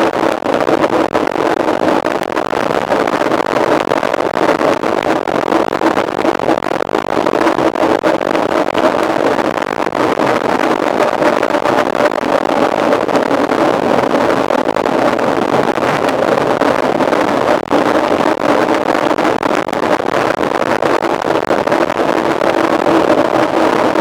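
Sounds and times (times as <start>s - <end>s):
faint steady hum: 0.0s - 24.0s
wind rushing over microphone: 0.0s - 24.0s.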